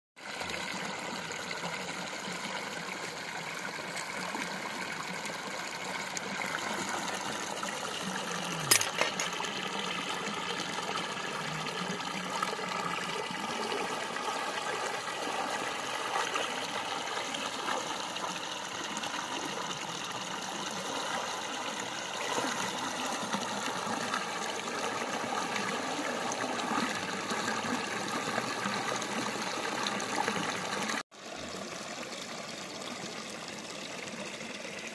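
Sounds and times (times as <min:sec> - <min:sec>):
water running and trickling: 0:00.2 - 0:34.9.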